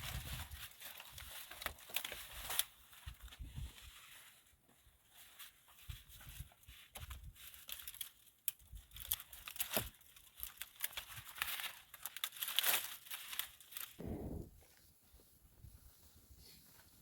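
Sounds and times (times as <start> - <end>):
dry material crumpled and torn: 0.0 - 14.0.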